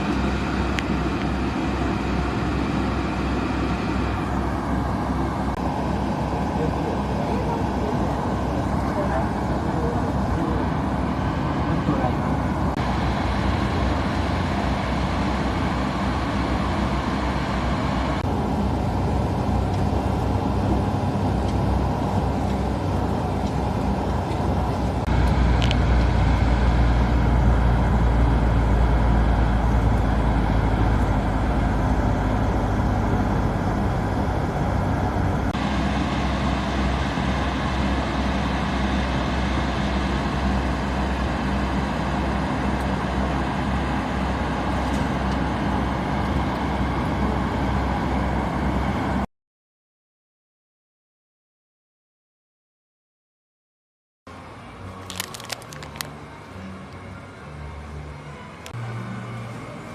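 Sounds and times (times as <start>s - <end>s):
vehicle engine and road rumble: 0.0s - 49.3s, 54.3s - 59.9s.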